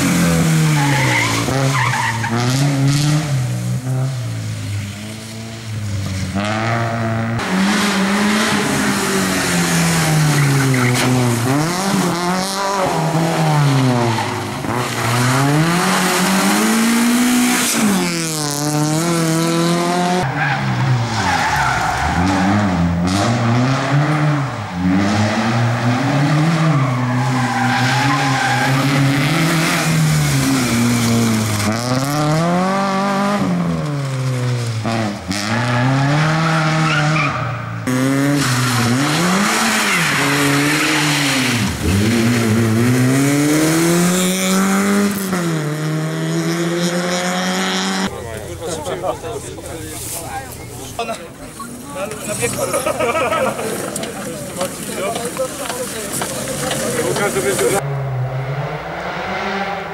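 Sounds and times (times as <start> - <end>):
tyre noise: 0.0 - 58.0
rally car engines revving: 0.0 - 59.9.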